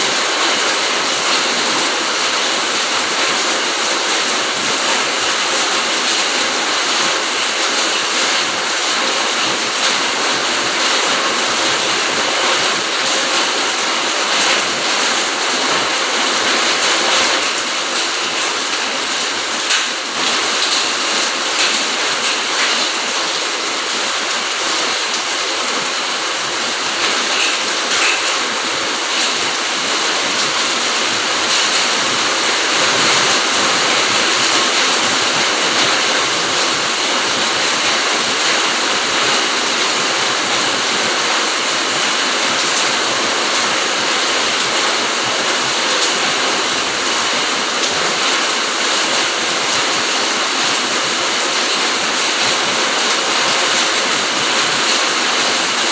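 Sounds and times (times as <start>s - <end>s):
heavy rain on foliage: 0.0s - 55.9s.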